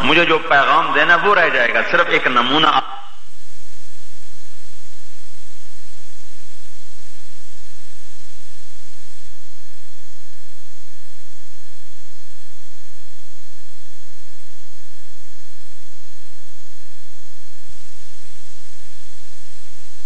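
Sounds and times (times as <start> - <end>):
electrical hum: 0.0 - 20.0
static hiss: 0.0 - 20.0.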